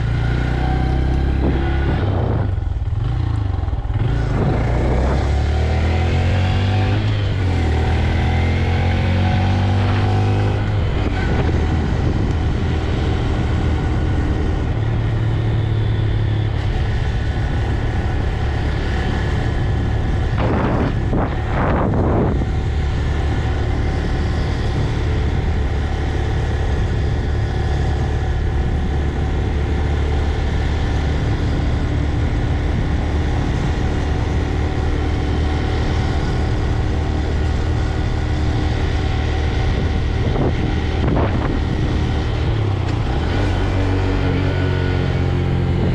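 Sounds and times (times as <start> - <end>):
motorcycle engine riding: 0.0 - 45.9.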